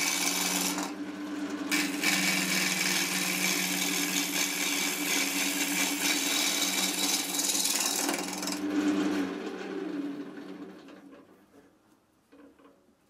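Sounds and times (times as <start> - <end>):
lathe motor hum: 0.0 - 10.6.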